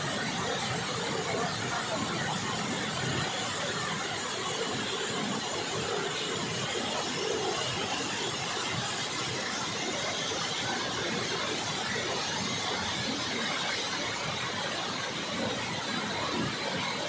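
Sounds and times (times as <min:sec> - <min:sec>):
waterfall roaring: 0:00.1 - 0:17.0.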